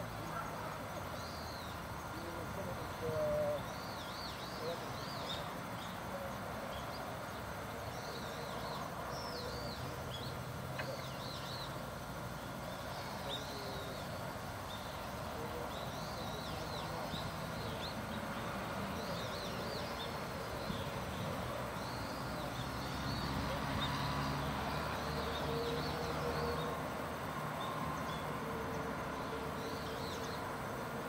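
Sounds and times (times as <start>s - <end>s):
outdoor background noise: 0.0s - 31.0s
small birds chirping: 0.1s - 31.0s.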